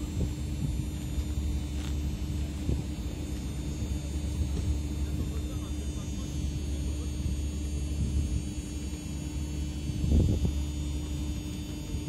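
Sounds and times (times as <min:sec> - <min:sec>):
wind on microphone: 0:00.0 - 0:05.3, 0:06.5 - 0:12.0
faint high whine: 0:00.0 - 0:12.0
idling train rumble and hum: 0:00.0 - 0:12.0.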